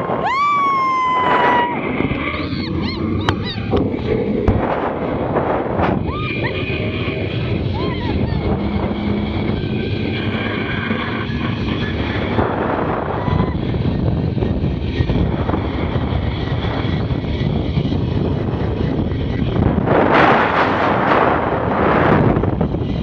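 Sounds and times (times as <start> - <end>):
trolley running on steel cable: 0.0 - 23.0
wind rushing over microphone: 0.0 - 23.0.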